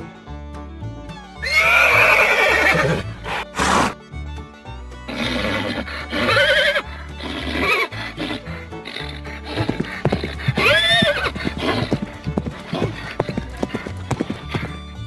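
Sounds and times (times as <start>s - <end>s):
background music: 0.0s - 15.0s
horse whinnying: 1.4s - 4.0s, 5.1s - 15.0s.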